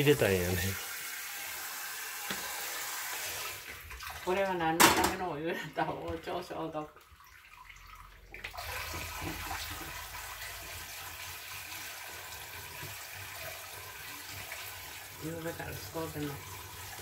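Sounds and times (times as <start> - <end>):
water running into sink: 0.0 - 17.0.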